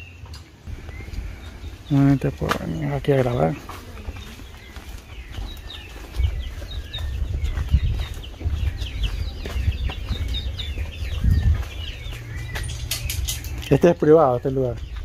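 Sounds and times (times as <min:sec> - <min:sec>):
birds chirping: 0:00.0 - 0:15.0
low uneven rumble: 0:00.6 - 0:15.0.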